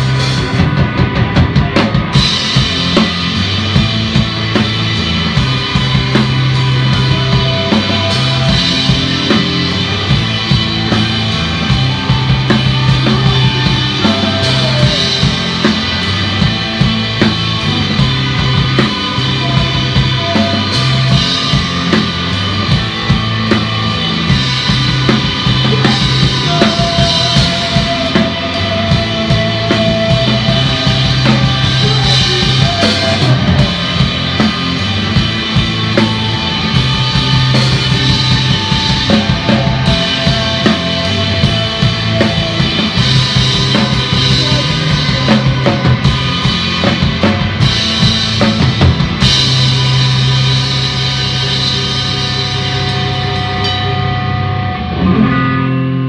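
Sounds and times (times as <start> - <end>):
drum kit beat: 0.0 - 54.6
bass line: 0.0 - 56.0
loud rock music: 0.0 - 56.0.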